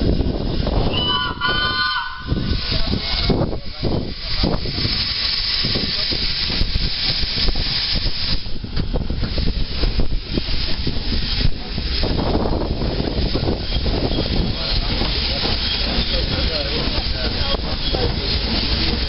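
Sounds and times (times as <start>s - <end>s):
steam hissing: 0.0s - 19.0s
engine and wheels clattering: 2.6s - 19.0s.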